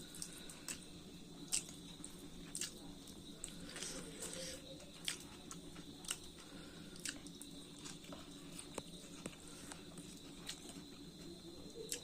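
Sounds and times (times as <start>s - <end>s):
person chewing with wet smacks: 0.0s - 12.0s.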